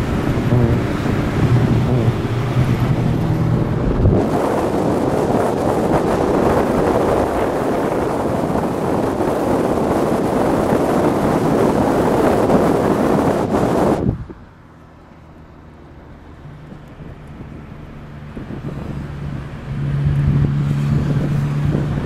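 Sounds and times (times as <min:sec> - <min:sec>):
wind noise on microphone: 0:00.0 - 0:14.5, 0:16.5 - 0:22.0
car engine running: 0:00.0 - 0:22.0.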